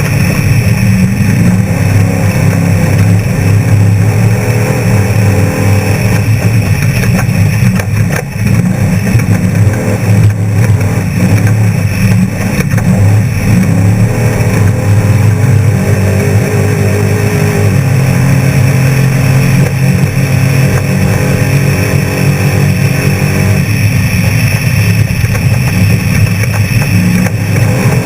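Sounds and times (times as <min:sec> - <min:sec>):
race engine droning: 0:00.0 - 0:28.0.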